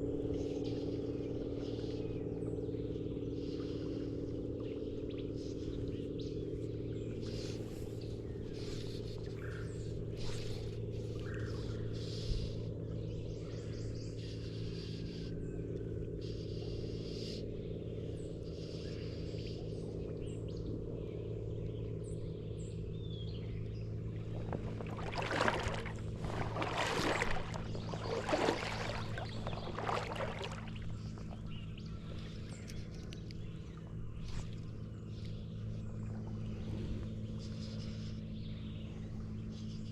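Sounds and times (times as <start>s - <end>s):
birds chirping: 0.0s - 39.9s
low engine hum: 0.0s - 39.9s.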